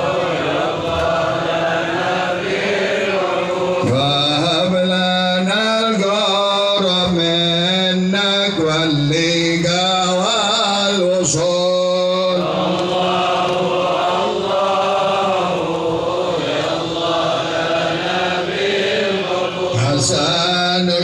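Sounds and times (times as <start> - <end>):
person chanting melodically: 0.0 - 21.0.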